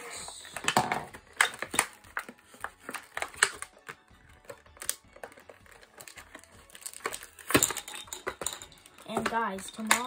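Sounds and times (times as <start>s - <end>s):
plastic packaging clicks and rustles: 0.4s - 10.0s.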